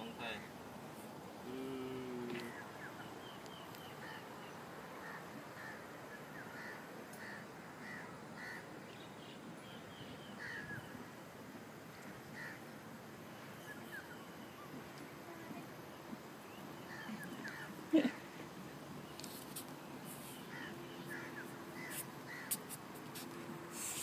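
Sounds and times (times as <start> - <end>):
birds chirping faintly: 0.0 - 24.0
steady outdoor hiss: 0.0 - 24.0.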